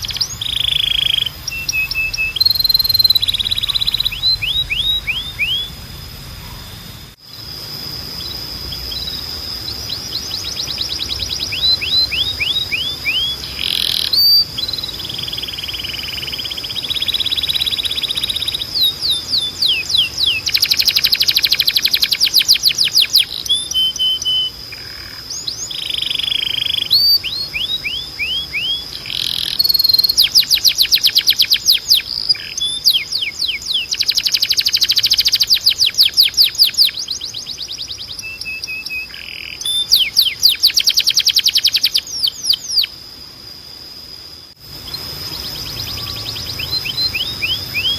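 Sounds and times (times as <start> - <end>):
canary singing: 0.0 - 43.2, 44.6 - 47.9.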